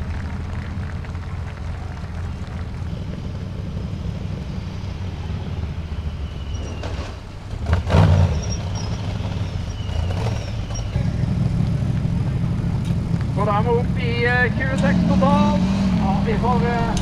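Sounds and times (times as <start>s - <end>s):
buggy engine running hard: 0.0s - 17.0s.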